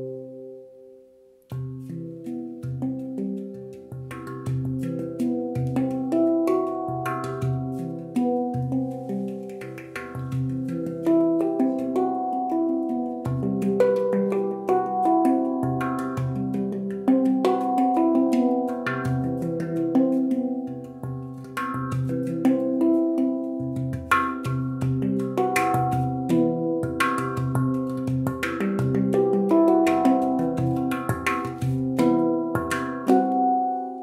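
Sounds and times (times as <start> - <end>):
handpan notes ringing: 0.0 - 34.0.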